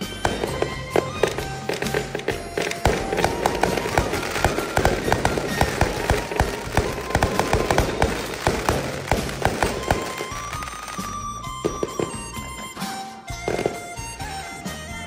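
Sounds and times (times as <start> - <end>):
fireworks bangs and crackles: 0.0 - 14.7.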